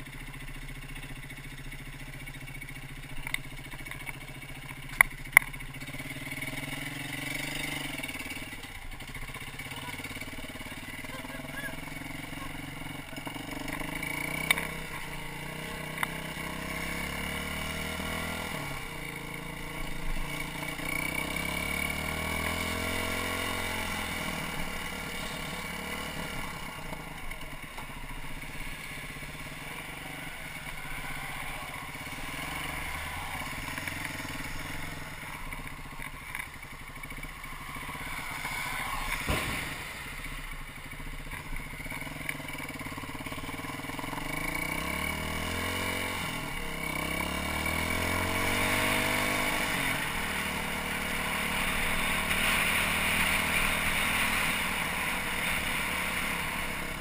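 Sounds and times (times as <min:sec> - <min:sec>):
engine ticking: 0:00.0 - 0:52.6
motorcycle engine revving: 0:00.0 - 0:57.0.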